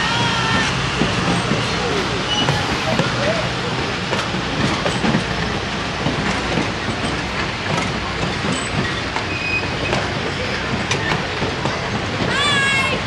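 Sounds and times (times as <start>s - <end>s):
high wheel squeaks: 0.0s - 13.0s
rumble of wheels on rail: 0.0s - 13.0s
clicks over rail joints: 0.1s - 13.0s.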